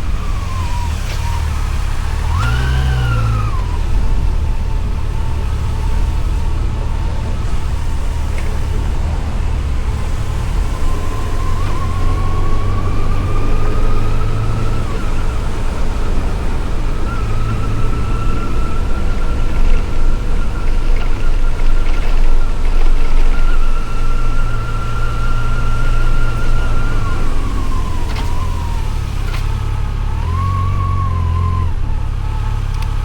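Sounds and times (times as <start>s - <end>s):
engine whine: 0.0s - 33.0s
motorcycle engine running: 0.0s - 33.0s
wind and road noise: 0.0s - 33.0s.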